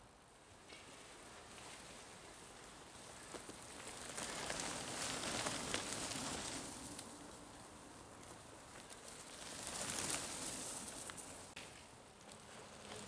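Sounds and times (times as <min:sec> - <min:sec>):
bike tyres crackling over leaves: 0:00.6 - 0:13.0.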